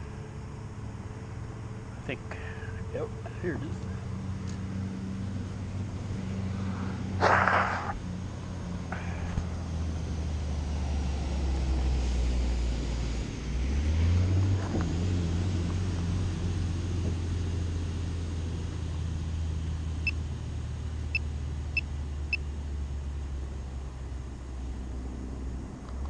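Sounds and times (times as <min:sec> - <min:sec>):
vehicle low rumble: 0:00.0 - 0:26.0.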